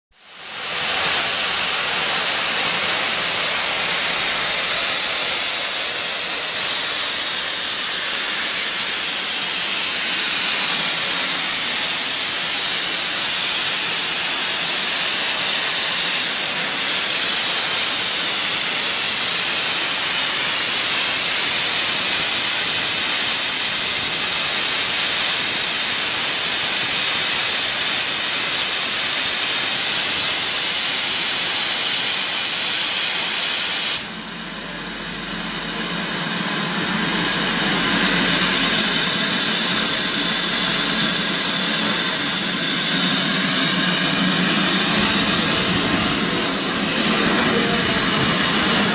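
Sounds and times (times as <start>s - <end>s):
steady loud hiss: 0.2s - 48.9s.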